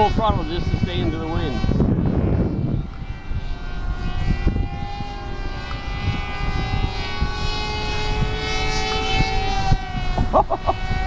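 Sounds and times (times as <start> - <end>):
model plane motor whining: 0.0 - 11.0
wind buffeting microphone: 0.0 - 11.0.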